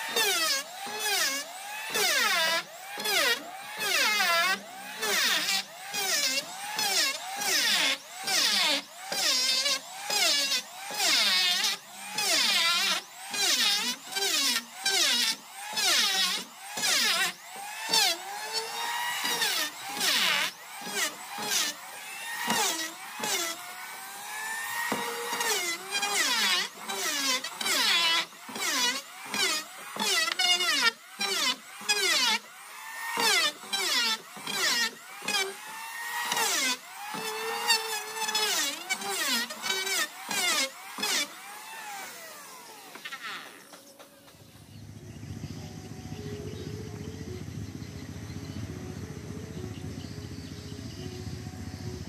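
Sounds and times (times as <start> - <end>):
power tool sanding wood: 0.0 - 52.0.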